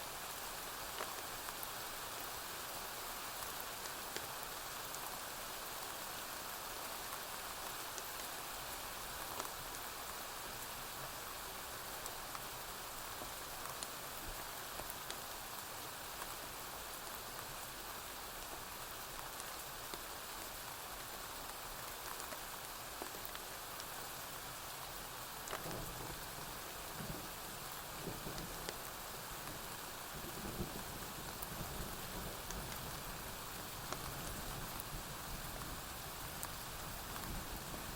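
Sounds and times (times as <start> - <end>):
rain on a roof: 0.0 - 37.9.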